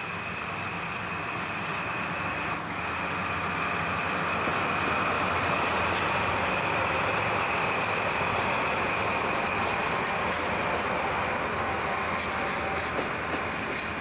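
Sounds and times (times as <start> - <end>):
diesel locomotive engines droning: 0.0 - 14.0
freight cars rumbling on rails: 0.0 - 14.0.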